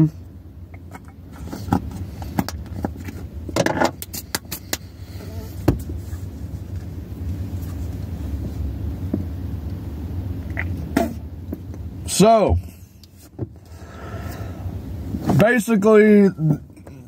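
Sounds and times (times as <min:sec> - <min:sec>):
car cabin rumble: 0:00.0 - 0:13.8.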